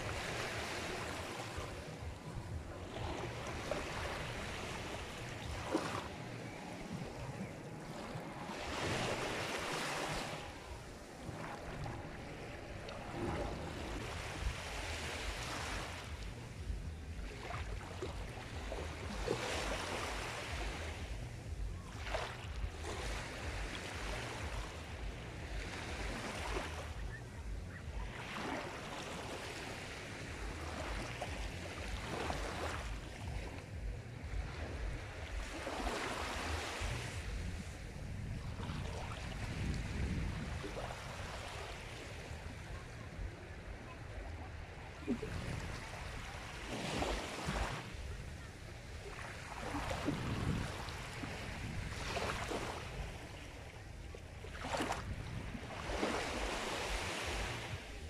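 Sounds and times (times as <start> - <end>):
waves breaking: 0.0 - 58.0.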